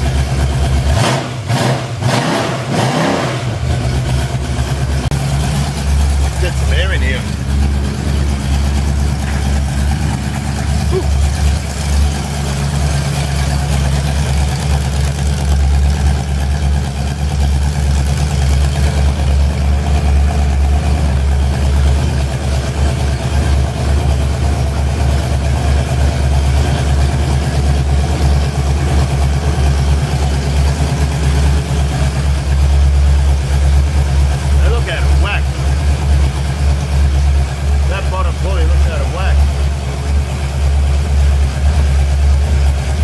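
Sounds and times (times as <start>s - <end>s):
engine idling: 0.0s - 43.0s.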